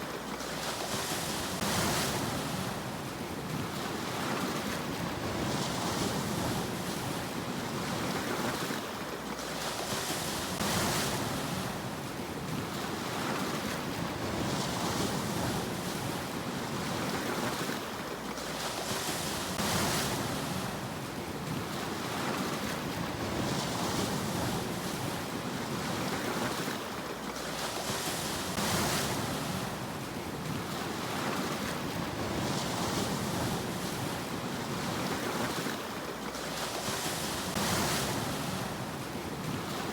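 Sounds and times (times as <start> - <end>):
sea waves surging: 0.0 - 39.9.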